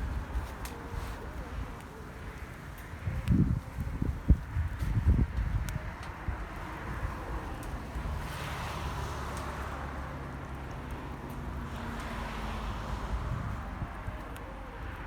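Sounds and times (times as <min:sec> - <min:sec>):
wind buffeting microphone: 0:00.0 - 0:08.4, 0:11.3 - 0:15.0.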